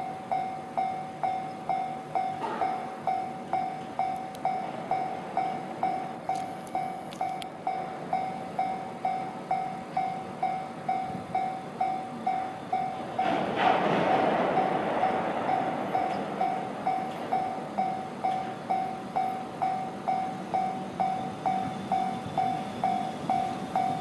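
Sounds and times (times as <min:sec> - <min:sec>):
level crossing warning bell ringing: 0:00.0 - 0:13.4, 0:14.6 - 0:24.0
train rumbling: 0:00.0 - 0:24.0.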